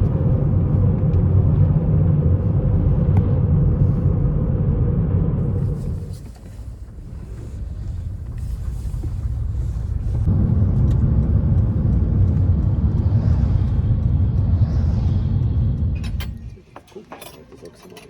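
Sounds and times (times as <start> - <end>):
engine rumbling: 0.0 - 17.4.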